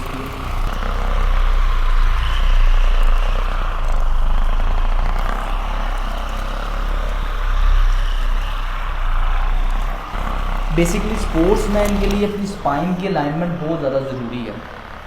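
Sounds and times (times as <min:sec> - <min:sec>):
massager motor hum: 0:00.0 - 0:15.0.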